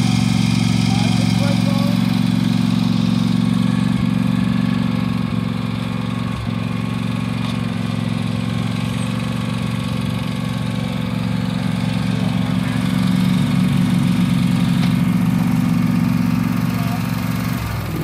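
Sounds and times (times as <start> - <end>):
lawn mower engine idling: 0.0 - 18.0.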